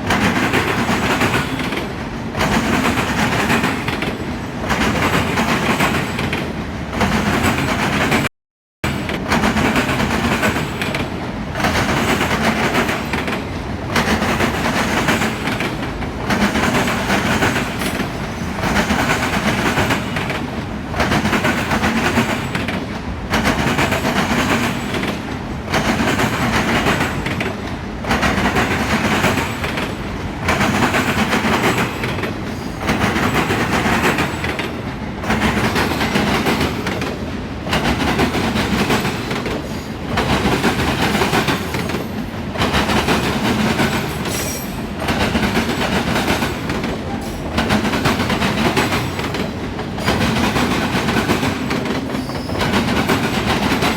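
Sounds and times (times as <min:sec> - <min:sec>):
freight train wheels clacking: 0:00.0 - 0:53.9.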